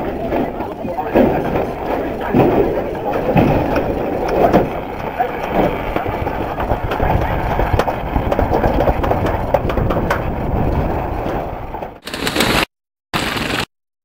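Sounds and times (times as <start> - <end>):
sled rumbling down metal chute: 0.0 - 12.0
sled clicking on track: 0.0 - 12.6, 13.2 - 13.7.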